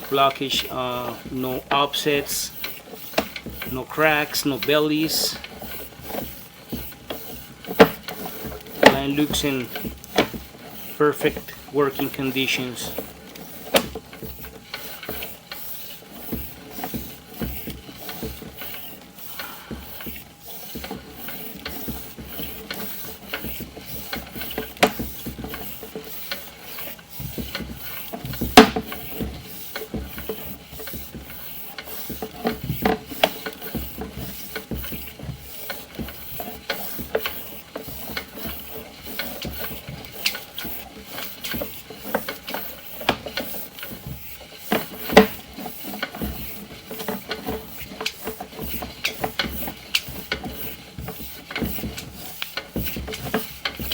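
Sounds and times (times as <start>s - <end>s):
cable and reel clicking and rattling: 0.0s - 53.9s.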